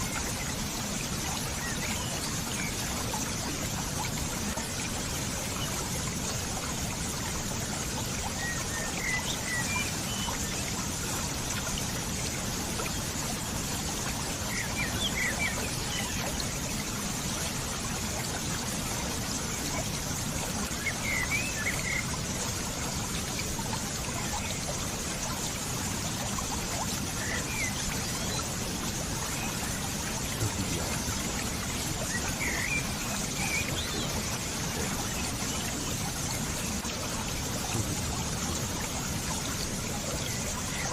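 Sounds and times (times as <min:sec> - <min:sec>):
water trickling and pouring: 0:00.0 - 0:40.9.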